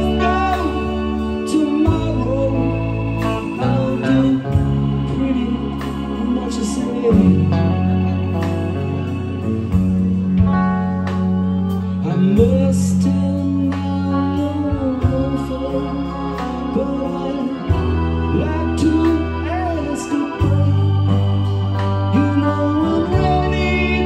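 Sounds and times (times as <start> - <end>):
electric bass low notes: 0.0 - 24.0
live rock band playing: 0.0 - 24.0
sliding melody line: 0.0 - 24.0.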